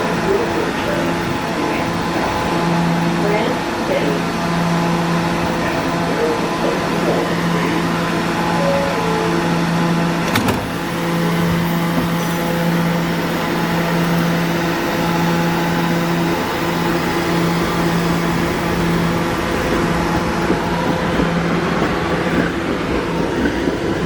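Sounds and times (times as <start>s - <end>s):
subway train electrical hum: 0.0s - 24.0s.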